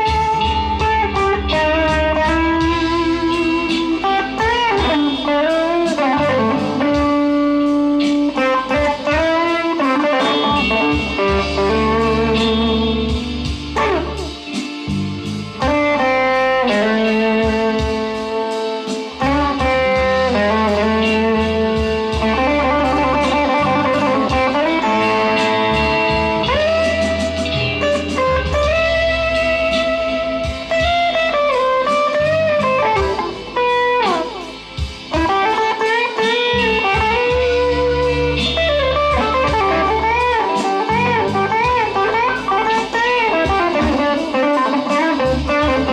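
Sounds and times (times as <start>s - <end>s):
electric guitar through amplifier: 0.0s - 45.9s.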